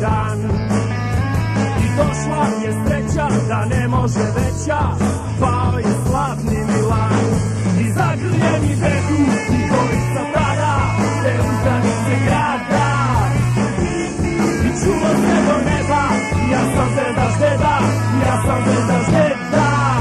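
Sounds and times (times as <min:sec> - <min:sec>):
rock song with singing: 0:00.0 - 0:20.0
steady bass line: 0:00.0 - 0:20.0.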